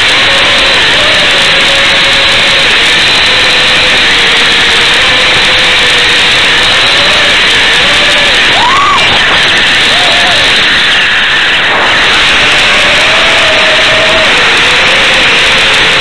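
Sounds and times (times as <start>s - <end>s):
faint quadcopter motor whine: 0.0s - 16.0s.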